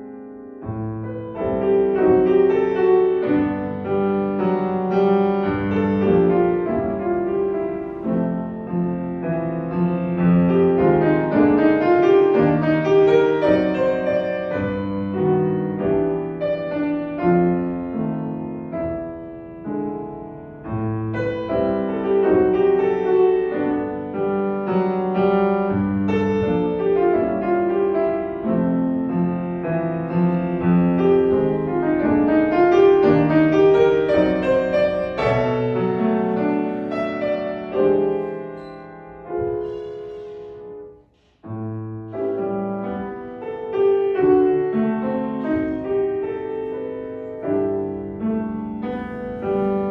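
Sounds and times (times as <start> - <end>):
jazz piano: 0.0 - 49.9.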